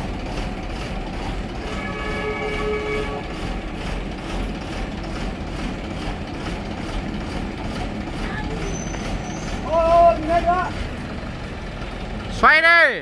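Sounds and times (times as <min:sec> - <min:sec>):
crane engine running under load: 0:00.0 - 0:13.0.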